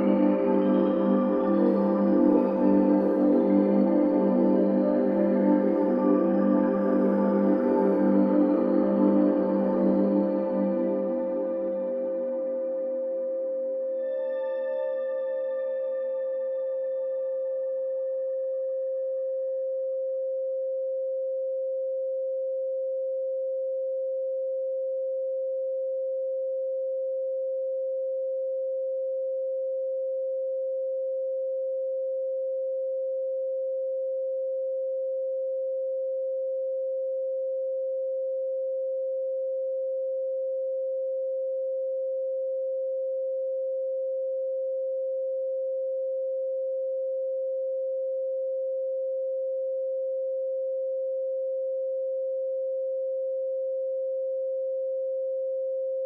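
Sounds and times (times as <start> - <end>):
sine wave tone: 0.0 - 56.0.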